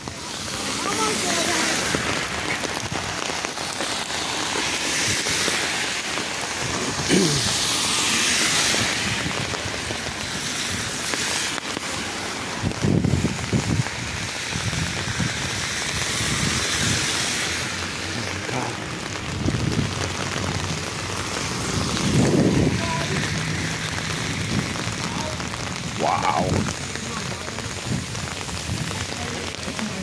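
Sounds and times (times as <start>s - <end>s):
car tyres hissing on wet road: 0.0s - 30.0s
rain on wet pavement: 0.0s - 30.0s.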